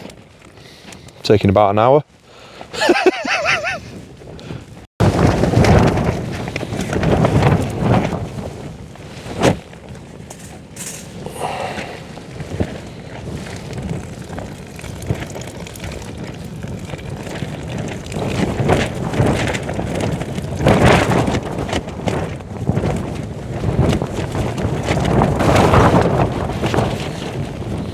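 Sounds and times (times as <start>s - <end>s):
wind flapping tent fabric: 0.0s - 27.9s.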